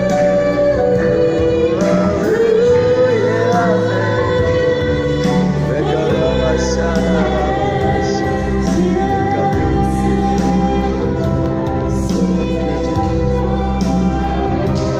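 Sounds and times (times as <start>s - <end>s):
bass notes: 0.0s - 14.9s
person singing: 0.0s - 14.9s.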